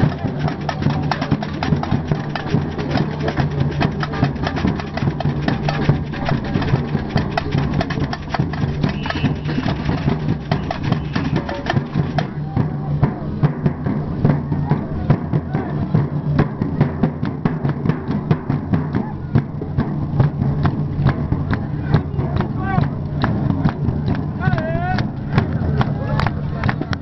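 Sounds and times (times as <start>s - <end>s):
samba percussion band: 0.0s - 27.0s.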